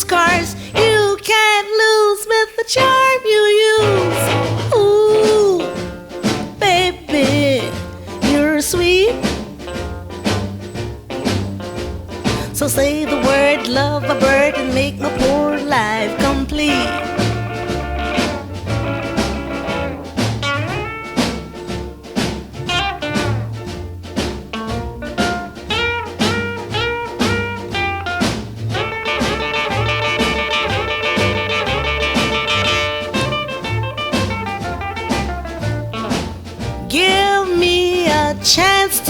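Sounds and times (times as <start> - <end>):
drum kit: 0.0 - 1.5, 2.8 - 39.0
rhythm and blues band instrumental: 0.0 - 39.0
steady bass beat: 5.8 - 38.8.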